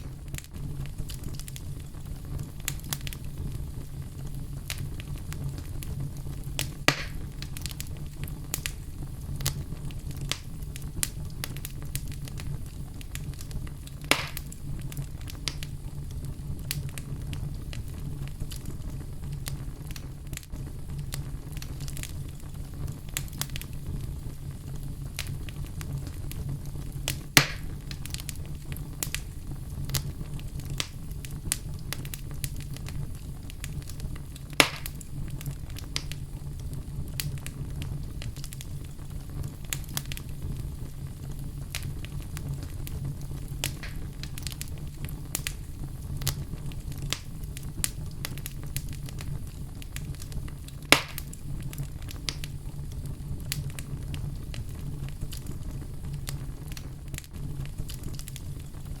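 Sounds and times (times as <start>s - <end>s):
fire crackling and popping: 0.0s - 59.0s
fire flames rumbling: 0.0s - 59.0s.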